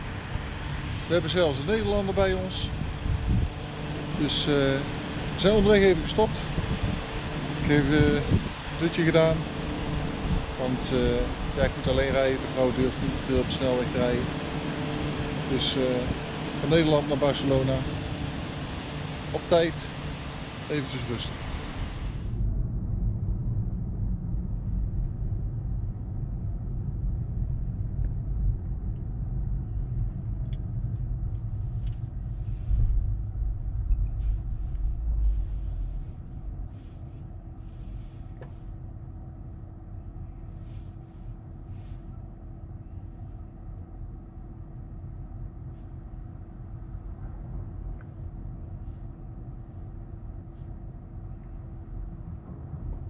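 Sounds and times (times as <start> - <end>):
low vehicle rumble: 0.0 - 53.0.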